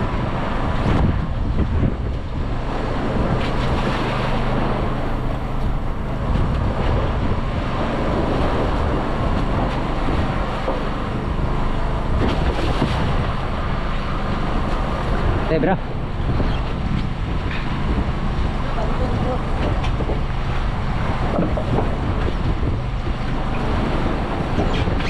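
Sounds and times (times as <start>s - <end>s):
boat engine drone: 0.0s - 25.0s
water washing against hull: 0.0s - 25.0s
wind buffeting microphone: 0.0s - 25.0s.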